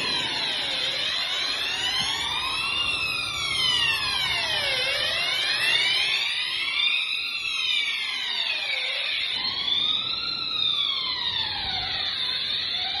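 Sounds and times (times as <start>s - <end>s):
fire alarm siren wailing: 0.0s - 13.0s.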